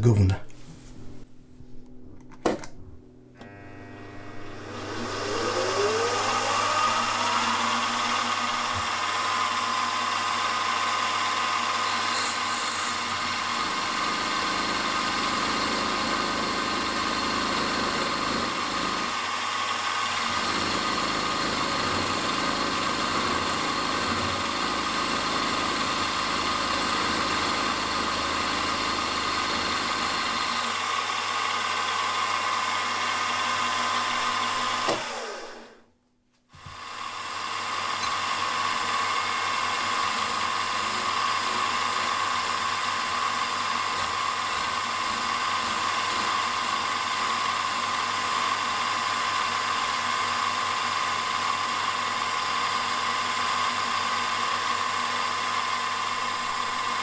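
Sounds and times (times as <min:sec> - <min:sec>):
end mill cutting metal: 0:03.4 - 0:35.5, 0:36.8 - 0:57.0
milling machine spindle whine: 0:03.4 - 0:35.7, 0:36.8 - 0:57.0.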